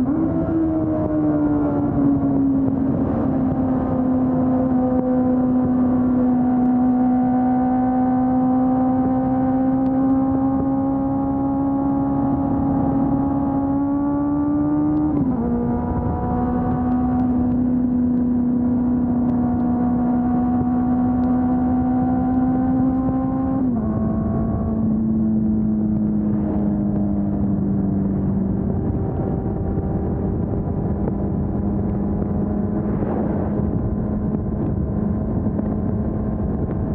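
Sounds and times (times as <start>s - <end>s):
motorcycle engine at high revs: 0.0s - 36.9s.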